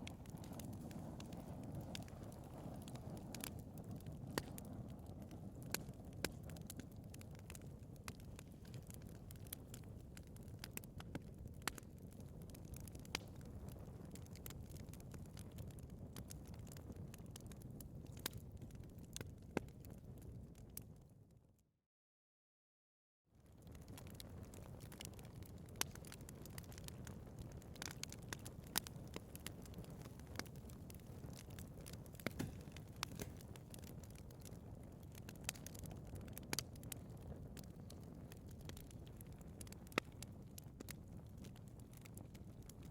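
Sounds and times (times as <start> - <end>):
sharp fire pops: 0.0 - 18.4, 23.7 - 42.8
wood fire crackling: 0.0 - 20.9, 23.4 - 42.9.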